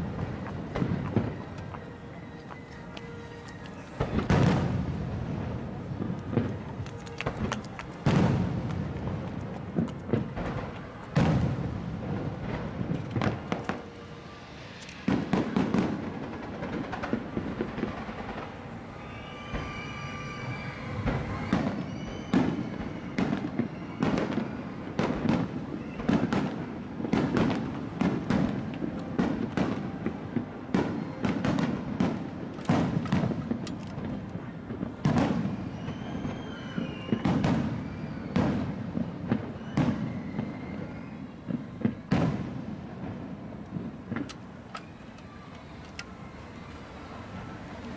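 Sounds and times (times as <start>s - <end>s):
fireworks booming bursts: 0.0s - 47.9s.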